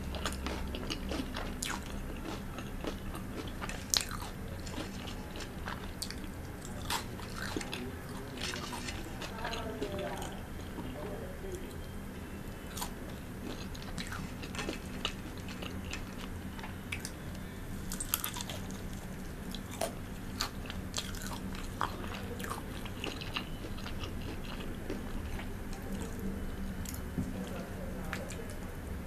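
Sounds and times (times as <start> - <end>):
crunchy chewing: 0.0 - 10.9, 12.5 - 28.6.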